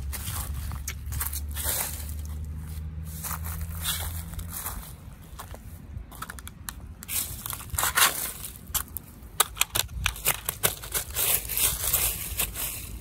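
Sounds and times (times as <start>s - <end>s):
footsteps crunching dry leaves: 0.0s - 9.2s, 10.2s - 13.0s.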